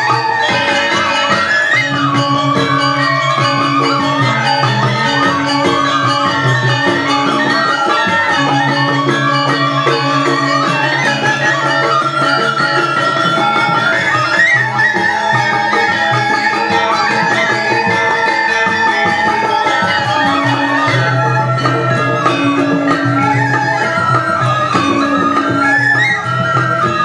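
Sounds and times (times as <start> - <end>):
gamelan ensemble playing: 0.0 - 27.0.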